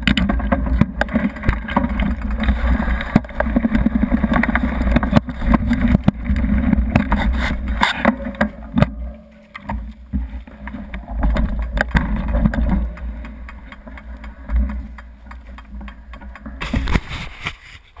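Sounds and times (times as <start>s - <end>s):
bicycle rattling over gravel: 0.0s - 18.0s
wind rumbling on microphone: 0.0s - 18.0s.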